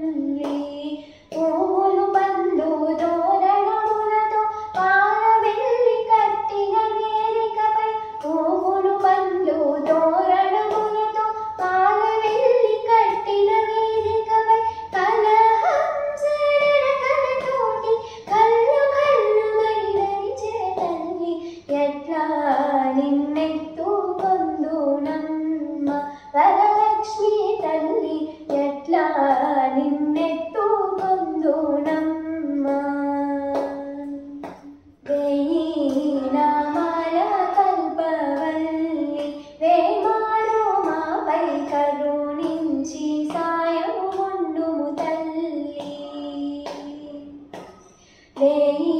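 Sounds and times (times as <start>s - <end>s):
girl singing slow song: 0.0s - 48.9s.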